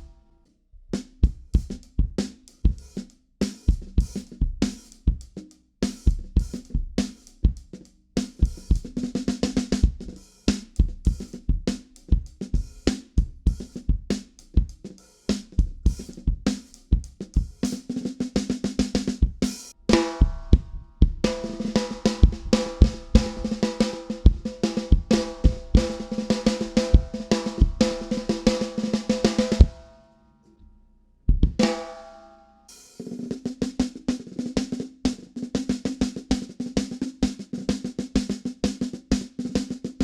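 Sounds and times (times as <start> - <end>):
drum kit groove: 1.0 - 29.9, 31.3 - 40.0.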